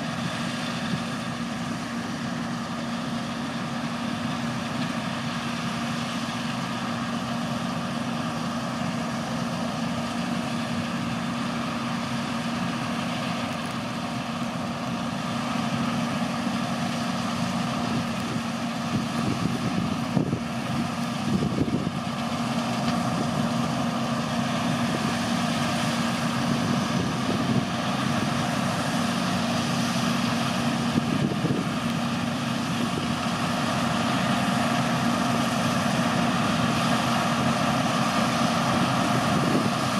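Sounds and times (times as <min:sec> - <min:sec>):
combine harvester diesel drone: 0:00.0 - 0:39.9
tractor running: 0:00.0 - 0:39.9.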